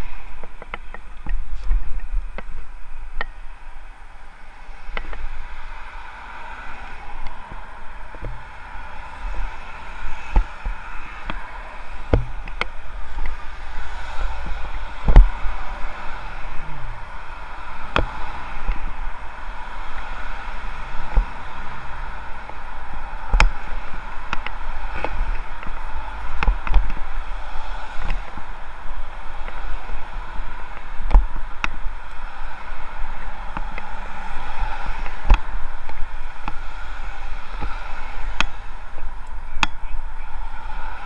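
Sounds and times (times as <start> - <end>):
traffic rumble: 0.0 - 41.0
wind hiss: 0.0 - 41.0.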